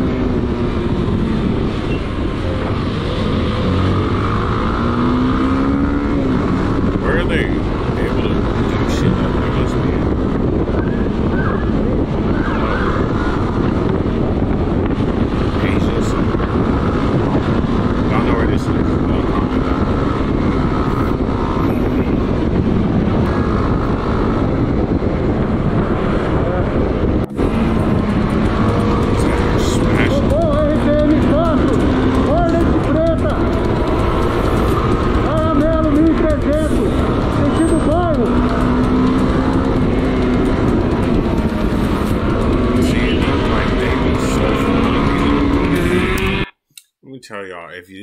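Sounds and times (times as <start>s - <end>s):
wind rushing: 0.0s - 46.5s
motorcycle engine revving: 0.0s - 46.6s.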